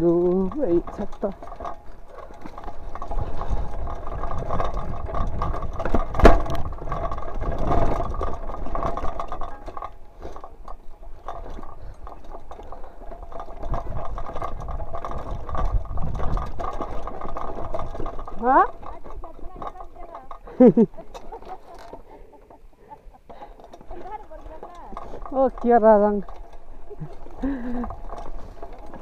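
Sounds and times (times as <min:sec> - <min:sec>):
bike rattling: 0:00.0 - 0:29.0
bike tyres on dirt and stones: 0:00.0 - 0:29.0.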